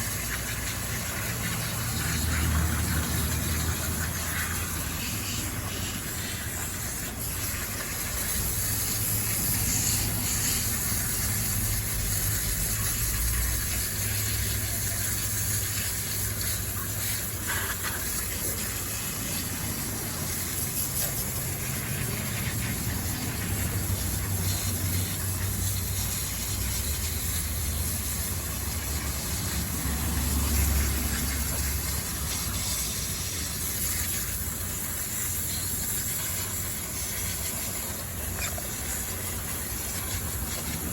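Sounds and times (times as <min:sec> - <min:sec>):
water spraying hiss: 0:00.0 - 0:40.9.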